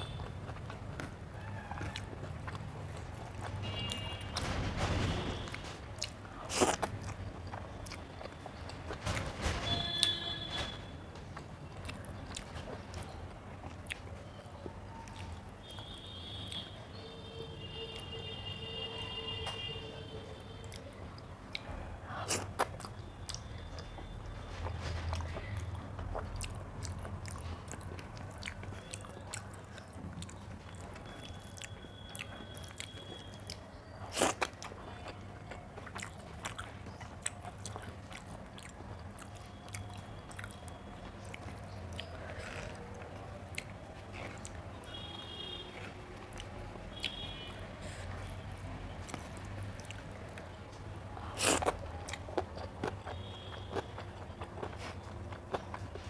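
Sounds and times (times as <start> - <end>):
chewing and biting food: 0.0 - 4.7, 5.3 - 10.4, 11.2 - 16.9, 20.3 - 56.0.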